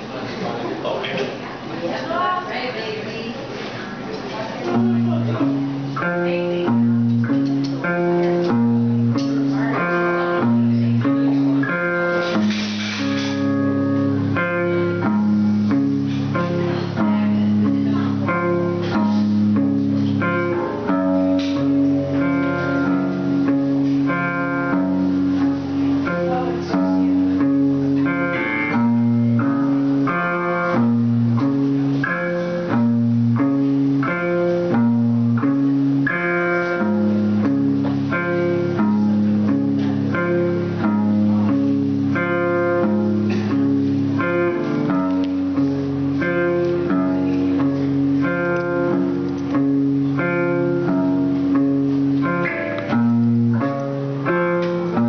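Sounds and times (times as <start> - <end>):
looped plucked notes: 3.9 - 55.0
low bass line: 4.7 - 55.0.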